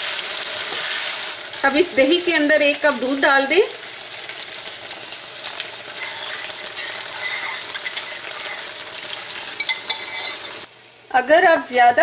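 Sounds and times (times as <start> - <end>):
chicken sizzling in hot oil: 0.0 - 11.2.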